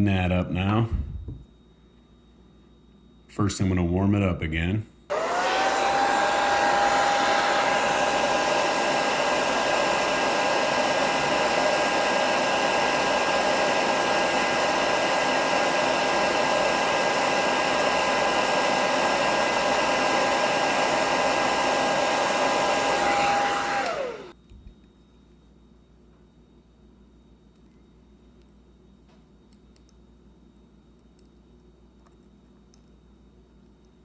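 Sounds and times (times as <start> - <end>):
hot-air blower fan whine: 0.0 - 29.3.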